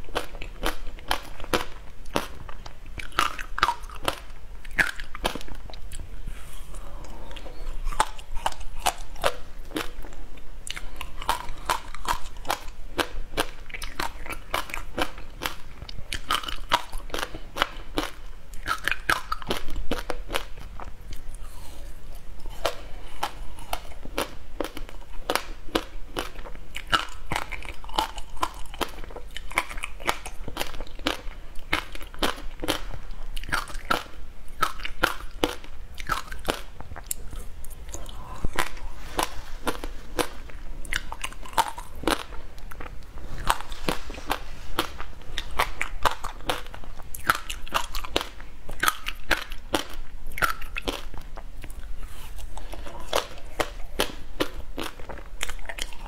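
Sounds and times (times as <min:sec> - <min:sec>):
ice crunching while chewed: 0:00.0 - 0:06.1, 0:06.7 - 0:56.0.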